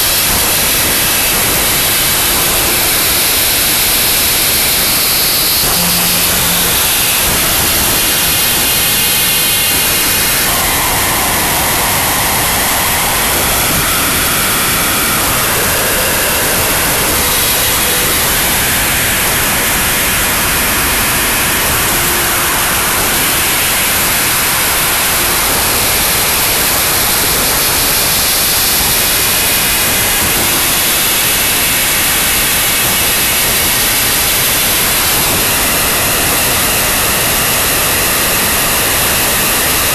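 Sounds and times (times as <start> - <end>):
harsh static noise: 0.0 - 39.9.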